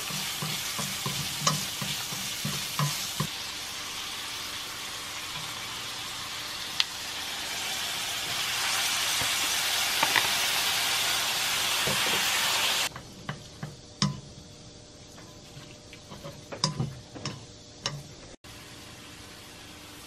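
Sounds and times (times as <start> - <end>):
noodles sizzling in a hot pan: 0.0 - 20.0.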